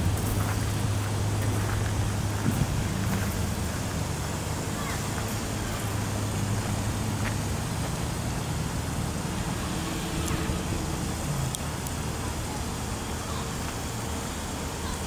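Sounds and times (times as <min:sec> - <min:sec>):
road noise hiss: 0:00.0 - 0:15.0
vehicle engines humming: 0:00.0 - 0:15.0.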